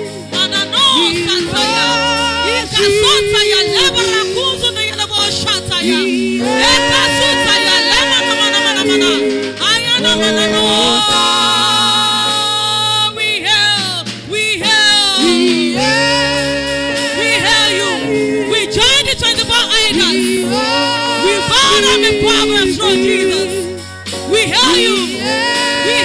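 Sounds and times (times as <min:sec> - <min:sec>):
person singing with vibrato: 0:00.0 - 0:26.0.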